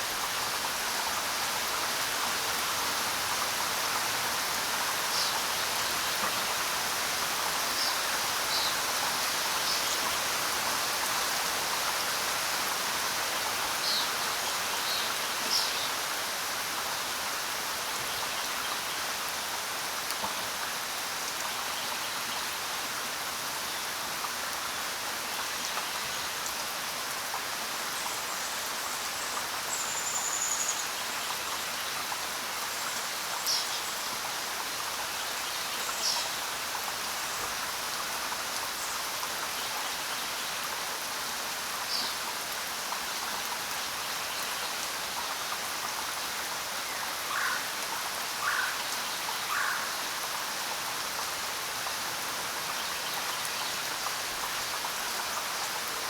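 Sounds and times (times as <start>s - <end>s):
rain falling on ground: 0.0s - 56.0s.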